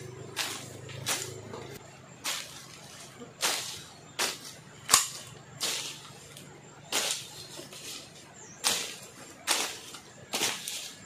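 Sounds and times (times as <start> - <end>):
blade swishing through weeds: 0.3 - 11.0.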